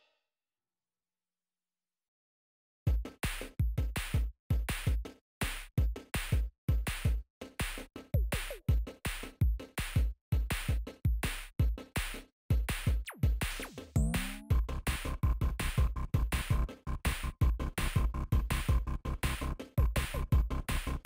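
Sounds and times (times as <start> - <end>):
electronic music with drum-machine beat: 2.9 - 21.0.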